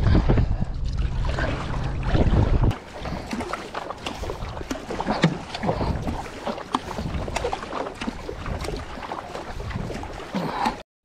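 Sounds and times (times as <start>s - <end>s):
wind rumble on microphone: 0.0s - 10.2s
paddle strokes splashing water: 0.0s - 10.8s.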